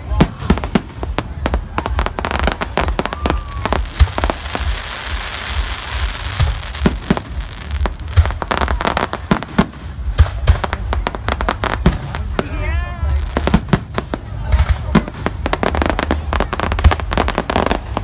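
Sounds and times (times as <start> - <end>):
dense firework crackling: 0.0 - 18.0.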